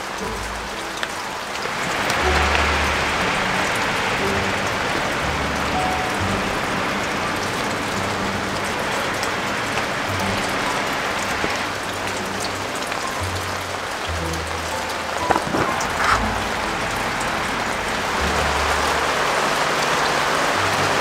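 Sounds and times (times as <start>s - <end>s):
low bass background music: 0.0s - 21.0s
steady rain: 0.0s - 21.0s.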